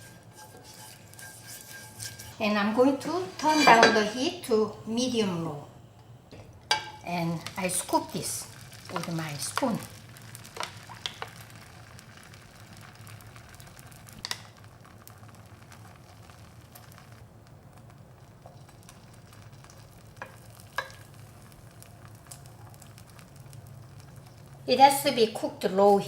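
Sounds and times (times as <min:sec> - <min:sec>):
egg sizzling in a pan: 0:00.0 - 0:05.1, 0:06.6 - 0:26.0.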